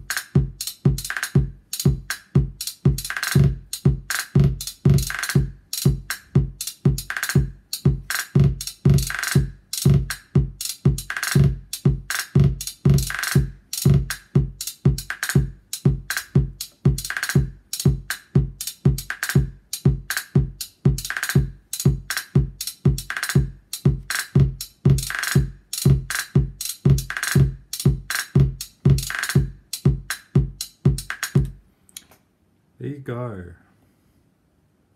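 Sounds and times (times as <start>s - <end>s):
deep electronic kick drum: 0.0s - 31.6s.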